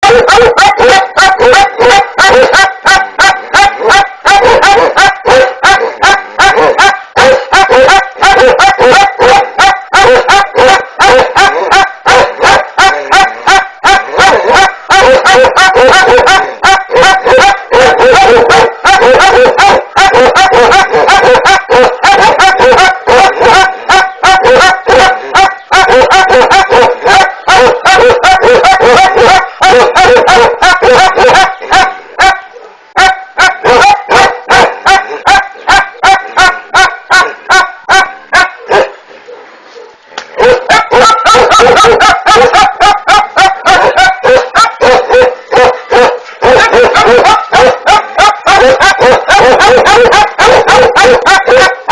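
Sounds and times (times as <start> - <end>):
young dog barking rapidly: 0.0 - 39.1, 39.9 - 51.9.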